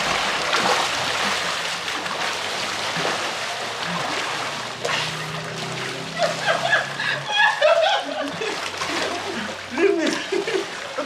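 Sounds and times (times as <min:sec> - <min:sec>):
water splashing from swimmers: 0:00.0 - 0:11.0.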